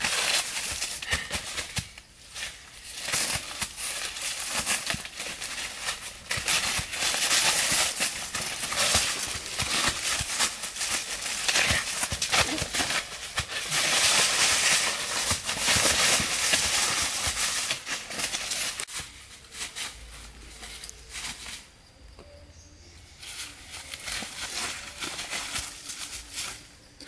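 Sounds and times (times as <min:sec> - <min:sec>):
dry leaves crackling underfoot: 0:00.0 - 0:27.0.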